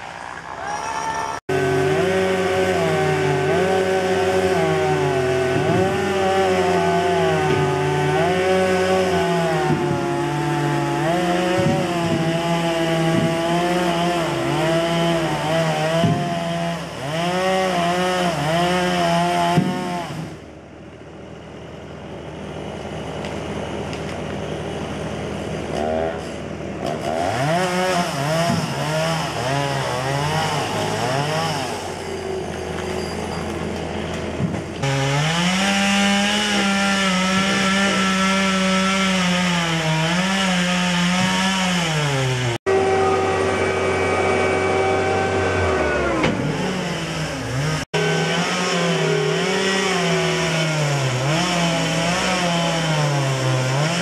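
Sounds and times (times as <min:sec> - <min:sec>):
chainsaw cutting wood: 0:01.5 - 0:20.5, 0:23.2 - 0:32.8, 0:33.8 - 0:54.0.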